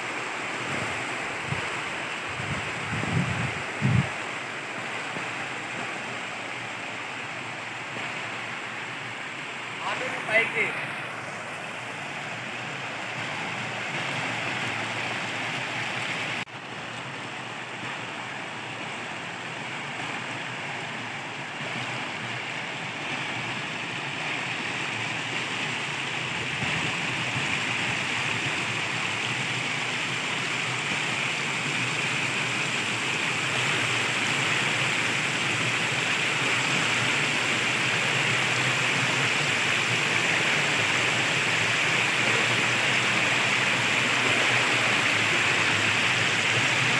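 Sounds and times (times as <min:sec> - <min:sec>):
stream water rushing over rocks: 0:00.0 - 0:46.9.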